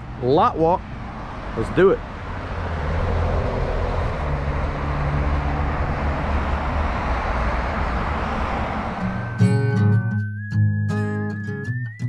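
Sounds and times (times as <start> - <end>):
road traffic rumble: 0.0 - 11.5.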